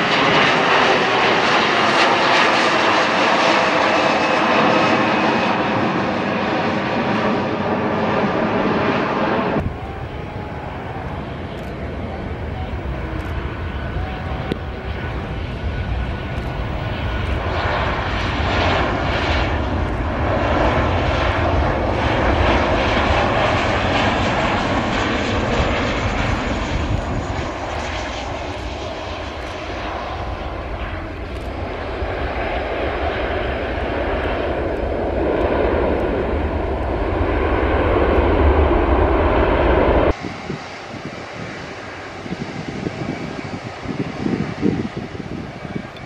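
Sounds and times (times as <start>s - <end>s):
airliner engines roaring: 0.0s - 46.0s.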